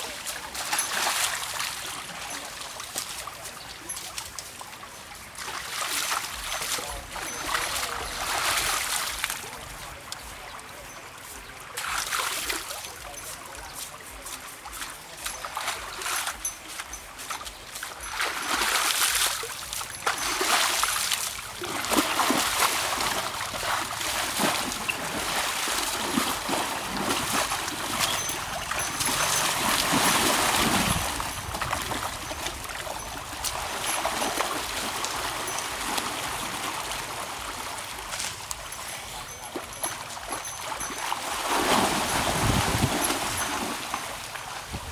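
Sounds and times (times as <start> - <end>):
water splashing and trickling: 0.0 - 44.9.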